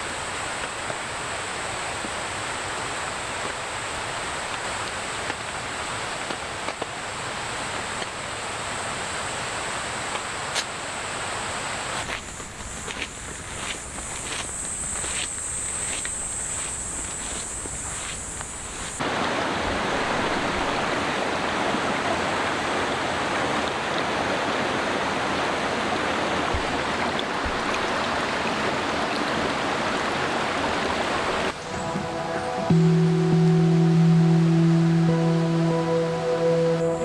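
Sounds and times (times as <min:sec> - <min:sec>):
rain falling in forest: 0:00.0 - 0:37.0.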